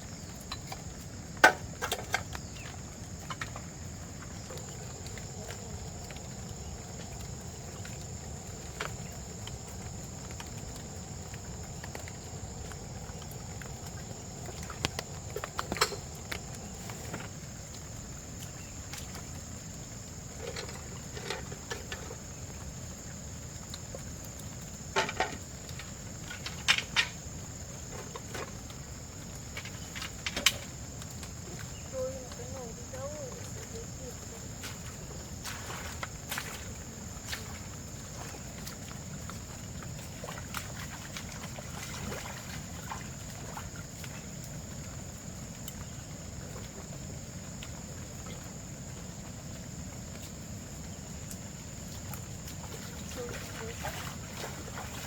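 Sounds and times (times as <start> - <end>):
crickets droning: 0.0 - 55.0.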